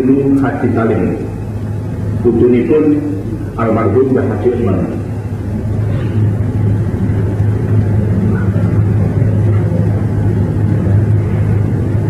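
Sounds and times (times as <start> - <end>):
rumbling noise: 0.0 - 12.0
steady low hum: 0.0 - 12.0.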